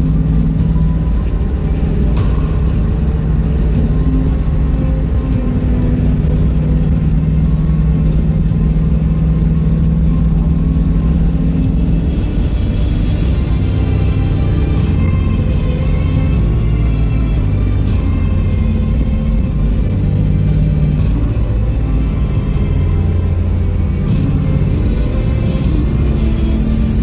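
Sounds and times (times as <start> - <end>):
car engine drone: 0.0 - 27.0
road noise: 0.0 - 27.0.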